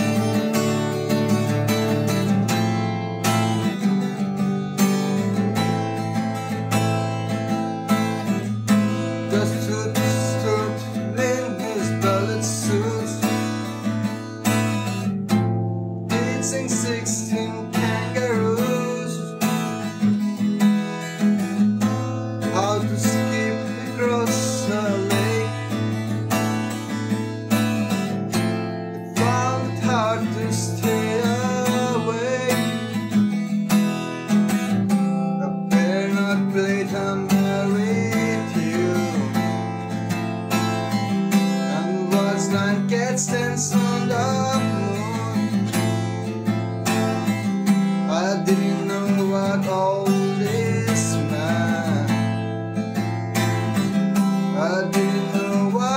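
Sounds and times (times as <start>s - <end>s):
acoustic guitar chords: 0.0s - 55.9s
sliding bending guitar melody: 0.0s - 55.9s.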